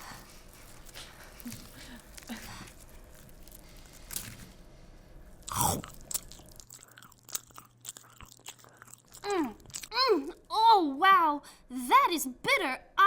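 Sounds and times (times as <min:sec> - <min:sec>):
person chewing soft food: 0:00.0 - 0:10.5.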